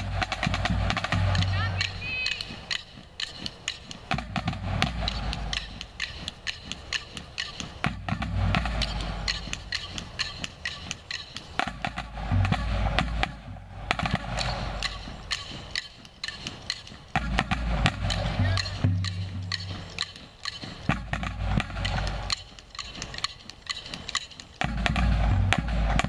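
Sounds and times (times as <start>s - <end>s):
crisp snare drum and stick clicks: 0.0s - 26.0s.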